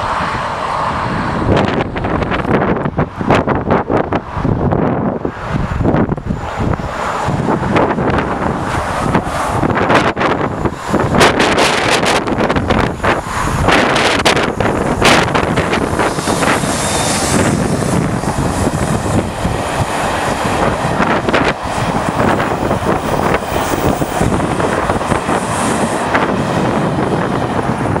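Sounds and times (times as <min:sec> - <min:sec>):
diesel locomotives passing: 0:00.0 - 0:28.0
train coaches rumbling past: 0:00.0 - 0:28.0
wind noise on microphone: 0:00.0 - 0:28.0.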